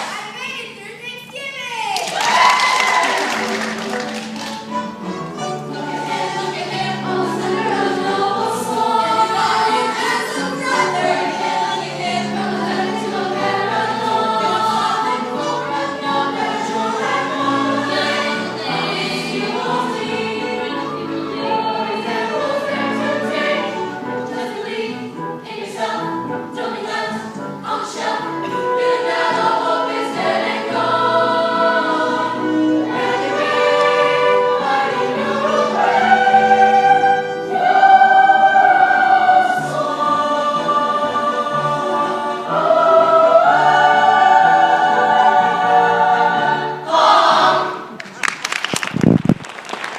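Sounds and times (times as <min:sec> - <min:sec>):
children singing in chorus: 0:05.7 - 0:47.8.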